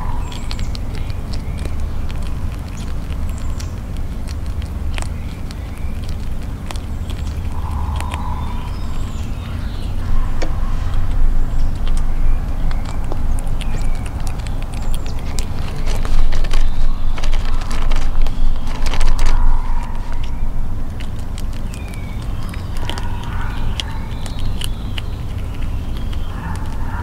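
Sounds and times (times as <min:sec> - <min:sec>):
claws scrabbling on wood: 0:00.0 - 0:27.0
squirrel gnawing peanut shells: 0:00.0 - 0:27.0
steady low rumble: 0:00.0 - 0:27.0.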